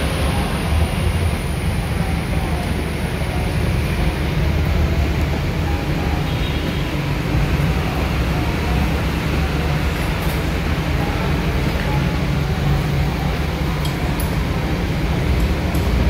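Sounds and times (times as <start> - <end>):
vehicle and machinery rumble: 0.0 - 16.0.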